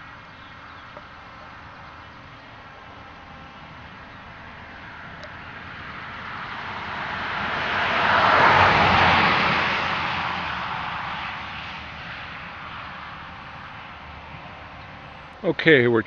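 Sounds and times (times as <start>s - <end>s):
car passing by: 0.0s - 16.0s.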